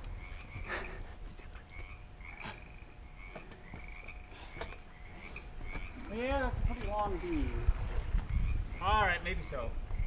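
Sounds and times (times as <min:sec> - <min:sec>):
frogs croaking: 0:00.0 - 0:10.0.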